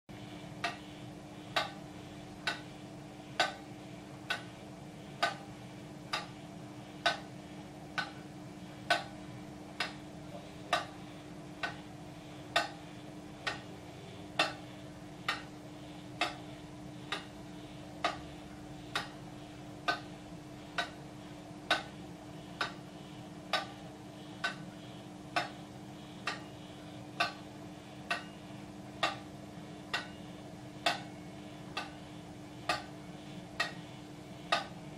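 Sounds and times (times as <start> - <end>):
steady low hum: 0.1 - 34.9
clock escapement ticking: 0.6 - 6.4, 7.0 - 34.9.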